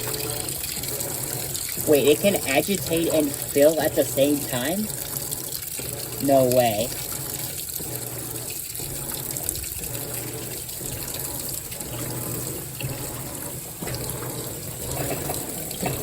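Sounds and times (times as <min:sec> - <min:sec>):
washer agitator running: 0:00.0 - 0:16.0
water pouring into washer tub: 0:00.0 - 0:16.0.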